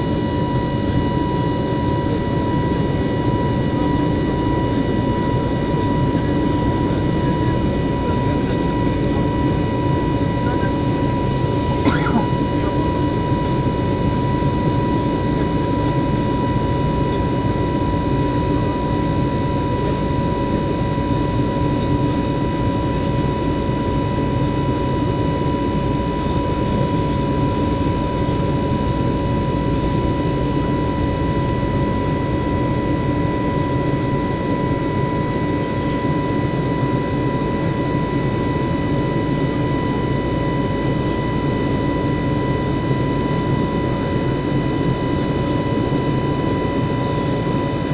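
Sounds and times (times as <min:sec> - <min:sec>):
airplane cabin engine rush: 0:00.0 - 0:47.9
steady high whine: 0:00.0 - 0:47.9.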